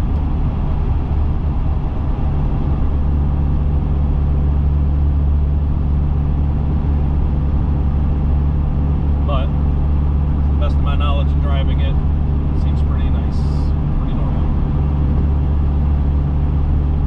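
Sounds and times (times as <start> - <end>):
car engine and exhaust drone: 0.0 - 17.0.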